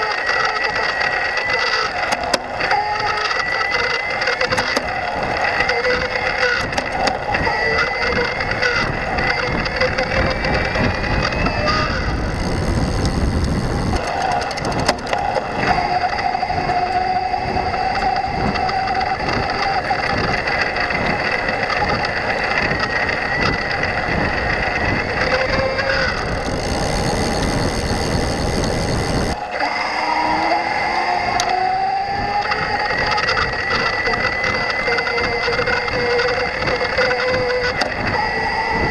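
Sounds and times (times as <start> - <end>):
electric bike motor whine: 0.0 - 38.9
motor chattering rattle: 0.0 - 38.9
wind and tyre rumble: 0.0 - 38.9.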